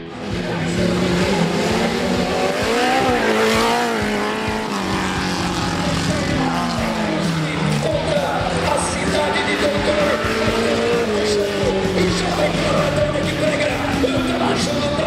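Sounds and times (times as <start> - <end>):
off-road engine revving hard: 0.0 - 15.0.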